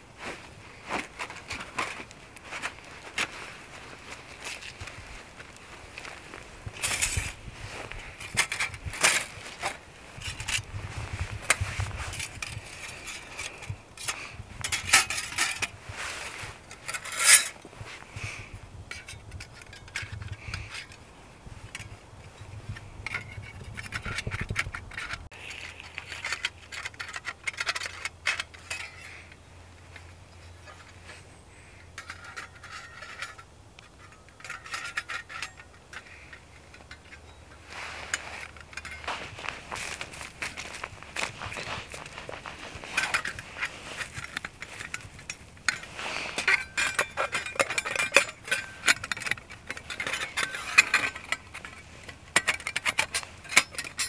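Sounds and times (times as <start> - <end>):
metal plates clicking and scraping: 6.7 - 7.4, 8.0 - 17.7, 18.9 - 21.0, 21.7 - 54.0.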